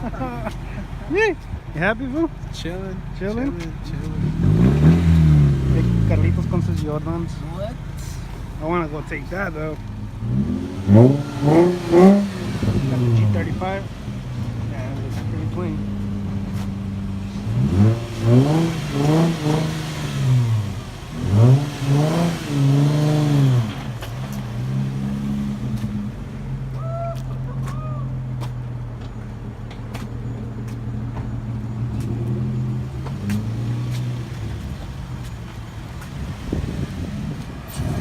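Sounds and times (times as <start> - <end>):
car engine revving and idling: 0.0 - 38.0.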